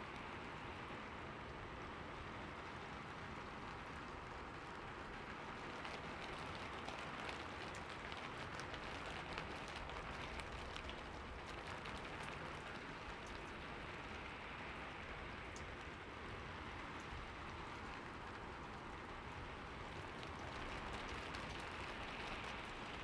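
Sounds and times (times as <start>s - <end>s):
steady rain hissing: 0.0s - 23.0s
raindrops pattering: 1.4s - 23.0s.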